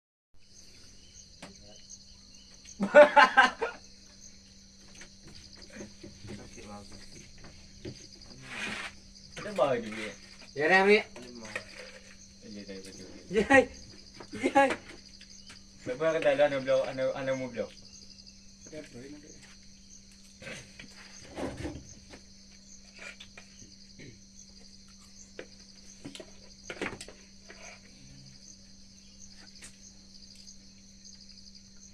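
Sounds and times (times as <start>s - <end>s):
crickets trilling: 0.4s - 31.9s
insects chirring: 0.4s - 31.9s.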